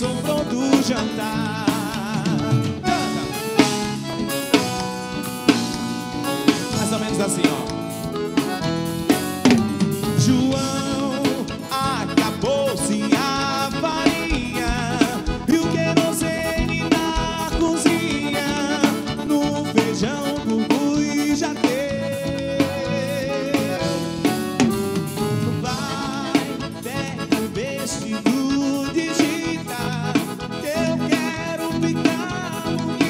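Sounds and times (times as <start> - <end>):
man singing into a microphone: 0.0 - 3.6, 6.4 - 8.6, 10.0 - 33.0
accordion: 0.0 - 33.0
drum kit beat: 0.0 - 33.0
electric bass: 0.0 - 33.0.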